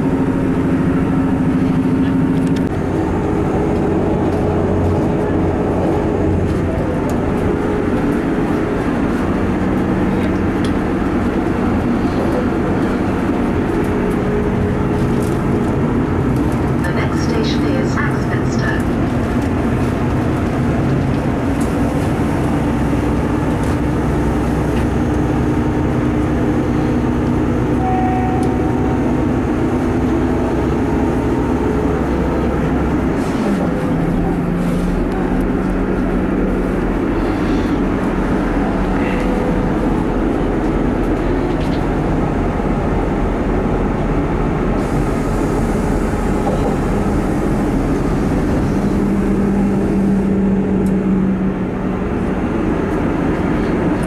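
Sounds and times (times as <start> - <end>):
diesel engines droning: 0.0 - 54.0
wheels rumbling on rails: 0.0 - 54.0.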